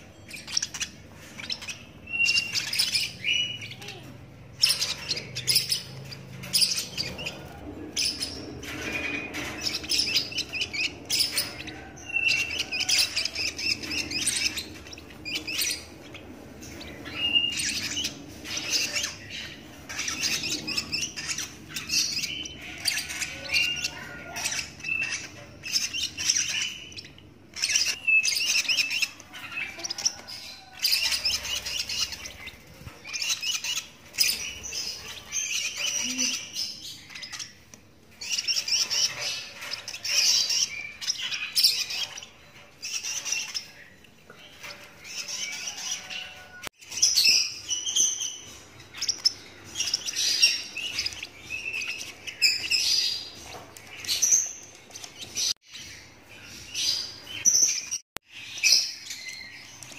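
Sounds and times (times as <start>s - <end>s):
bird chick begging chirps: 0.0s - 58.0s.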